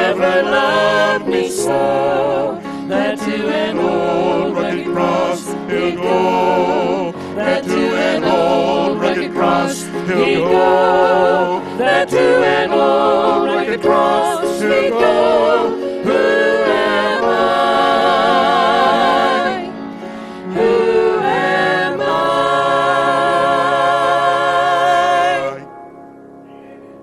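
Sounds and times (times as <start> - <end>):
vocal trio singing gospel: 0.0 - 25.7
piano accompaniment: 0.0 - 27.0.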